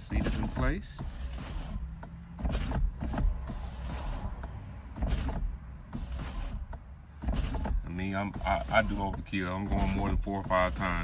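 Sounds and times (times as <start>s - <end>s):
power window motor running: 0.0s - 11.0s.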